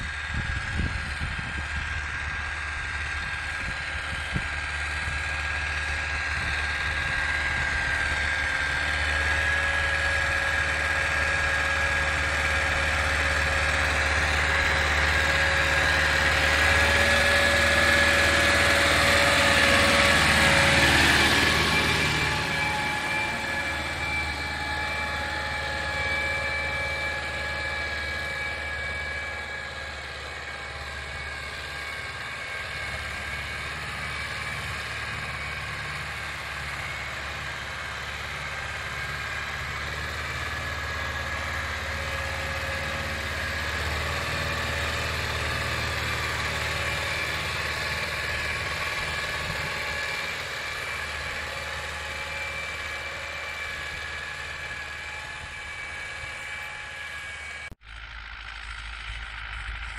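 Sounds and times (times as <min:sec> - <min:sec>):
high-pitched whine: 0:00.0 - 0:59.9
tractor diesel engine running: 0:00.0 - 0:59.9.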